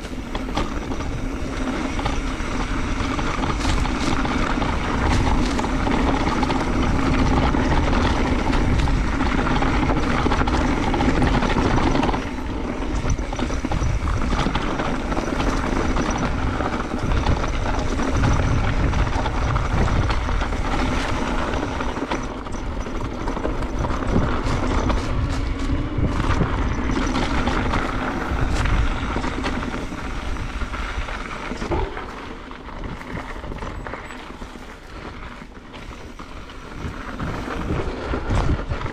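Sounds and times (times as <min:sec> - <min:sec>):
bike rattling and knocking: 0:00.0 - 0:38.9
bike tyre noise: 0:00.0 - 0:38.9
wind buffeting microphone: 0:00.0 - 0:38.9.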